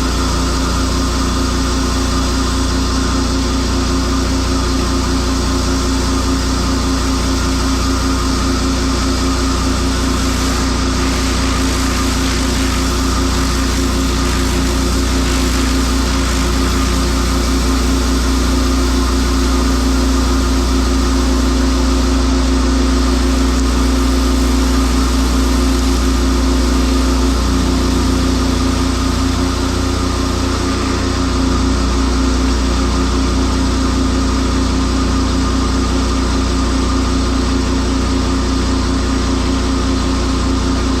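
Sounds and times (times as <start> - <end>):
water spraying on concrete: 0.0 - 38.2
pressure washer engine running: 0.0 - 41.0.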